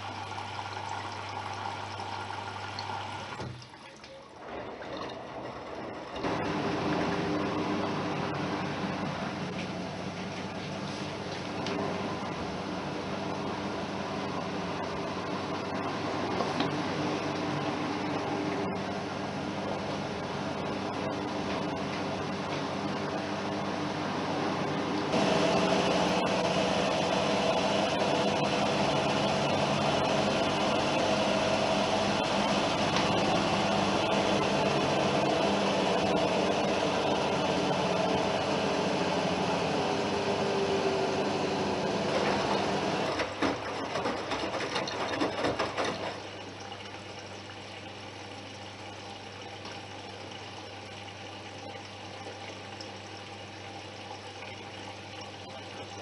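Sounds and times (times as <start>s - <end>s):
washing machine pumping water: 0.0s - 56.0s.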